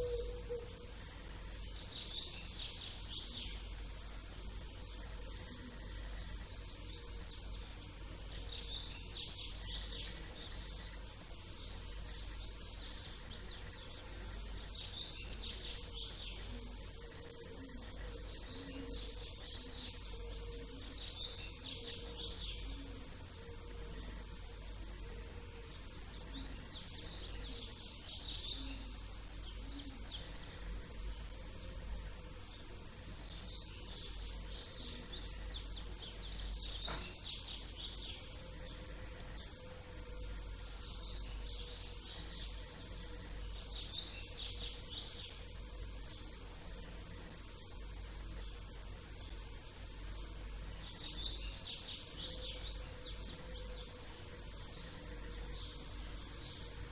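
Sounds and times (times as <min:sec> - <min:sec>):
faint high whine: 0:00.0 - 0:56.9
songbirds chirping: 0:00.0 - 0:56.9.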